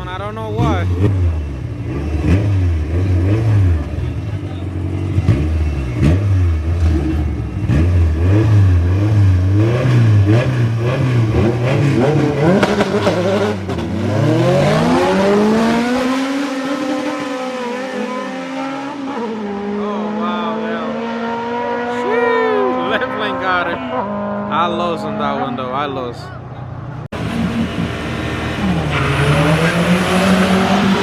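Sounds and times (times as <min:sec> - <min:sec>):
cars accelerating at full throttle: 0:00.0 - 0:31.0
race car engines revving: 0:00.0 - 0:31.0.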